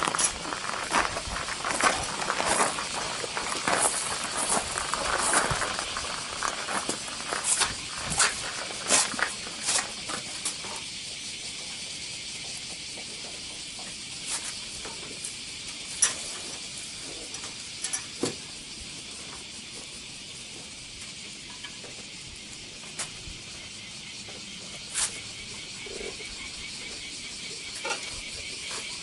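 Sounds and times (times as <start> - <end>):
steady high hiss: 0.0 - 29.0.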